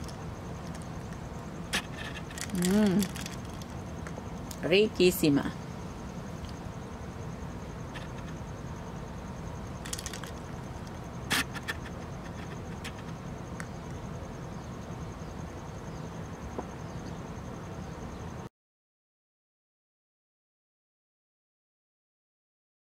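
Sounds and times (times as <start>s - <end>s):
high-pitched pulsing whine: 0.0s - 18.5s.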